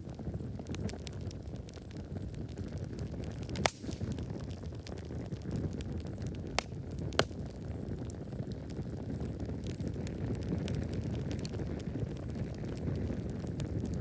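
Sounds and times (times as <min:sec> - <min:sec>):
campfire crackling: 0:00.0 - 0:14.0
low rumble of burning: 0:00.0 - 0:14.0
sharp pops of fire: 0:00.0 - 0:14.0.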